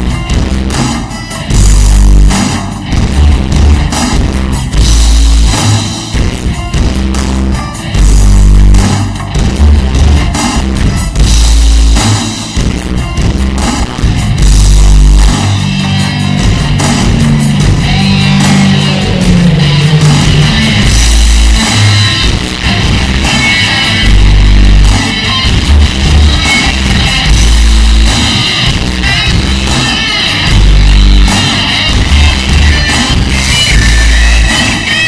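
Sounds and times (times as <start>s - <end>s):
hard rock music with electric guitar: 0.0s - 35.0s
heavy bass hits: 1.5s - 34.4s.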